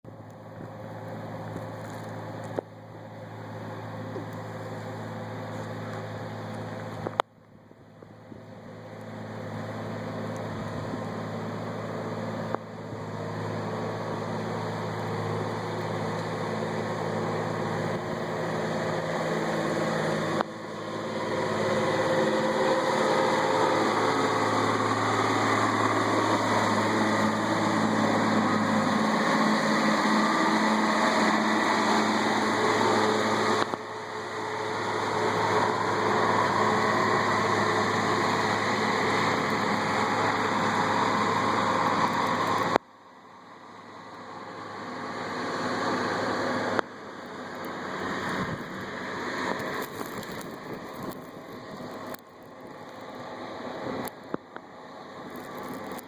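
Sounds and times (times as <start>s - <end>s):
loader diesel engine running: 0.0s - 56.0s.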